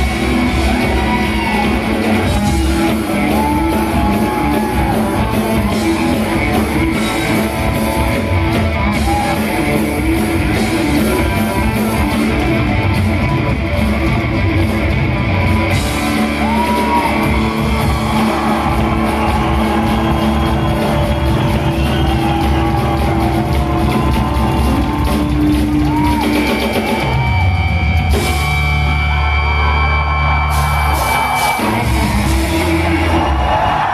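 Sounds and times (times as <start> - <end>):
drum kit: 0.0 - 33.9
electric guitar: 0.0 - 33.9
live rock band playing: 0.0 - 33.9.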